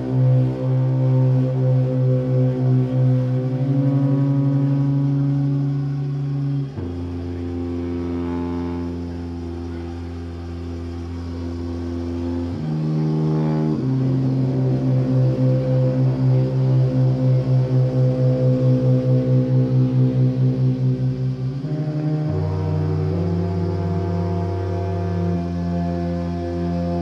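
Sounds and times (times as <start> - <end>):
tubas holding low drone notes: 0.0 - 27.0.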